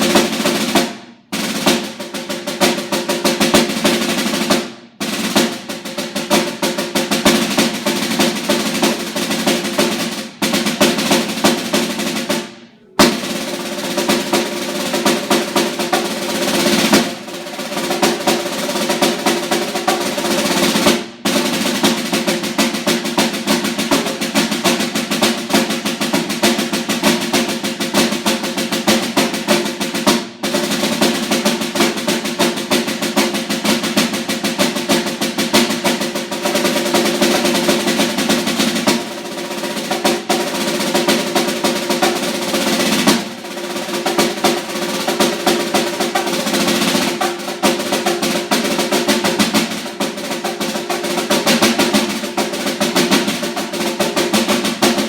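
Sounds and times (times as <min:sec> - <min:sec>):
snare drum rolls: 0:00.0 - 0:55.0.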